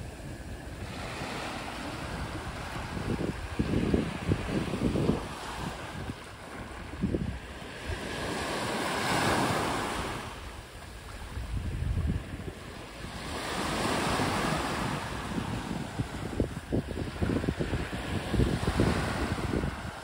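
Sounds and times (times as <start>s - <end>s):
waves breaking on beach: 0.0s - 20.0s
wind buffeting microphone: 0.0s - 20.0s.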